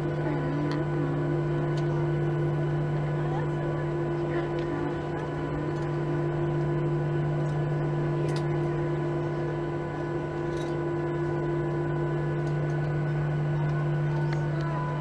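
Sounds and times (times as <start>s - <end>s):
airliner cabin engine hum: 0.0s - 15.0s.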